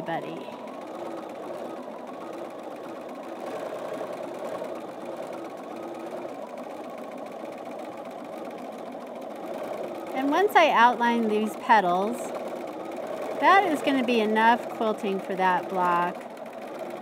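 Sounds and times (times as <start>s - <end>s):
sewing machine running: 0.0s - 17.0s.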